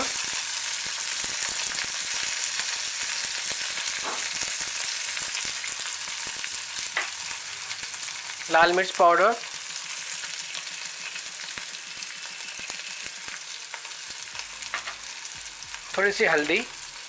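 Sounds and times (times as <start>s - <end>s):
pods sizzling in hot oil: 0.0s - 17.0s.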